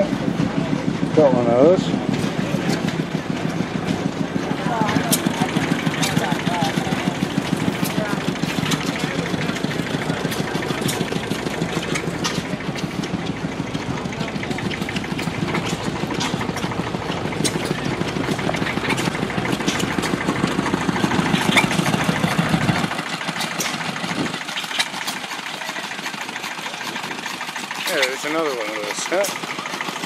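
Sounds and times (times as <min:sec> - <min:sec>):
stationary engine chugging: 0:00.0 - 0:30.0.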